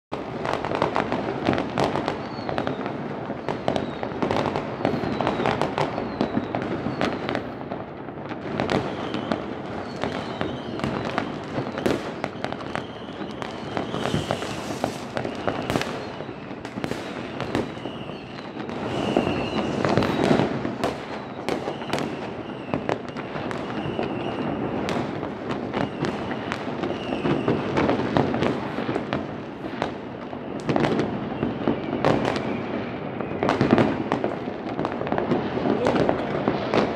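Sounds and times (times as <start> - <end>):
fireworks banging: 0.1 - 36.9
fireworks whistling: 0.1 - 36.9.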